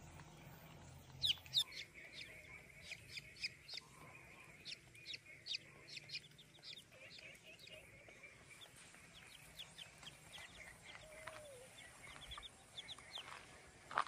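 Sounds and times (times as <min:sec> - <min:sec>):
chicks peeping: 0:00.1 - 0:14.0.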